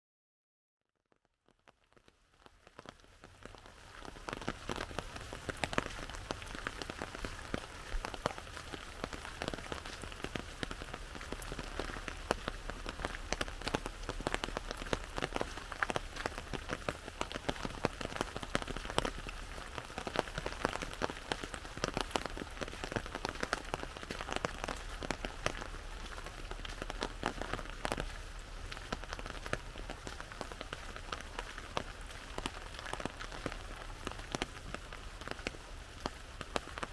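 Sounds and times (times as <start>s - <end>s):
rain drumming on an umbrella: 1.2s - 36.9s.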